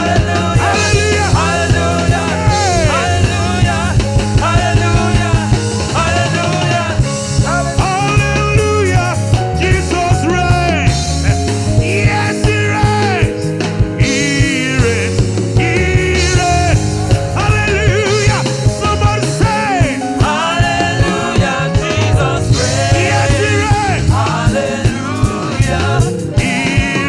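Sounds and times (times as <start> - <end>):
gospel band music with singing: 0.0 - 27.0.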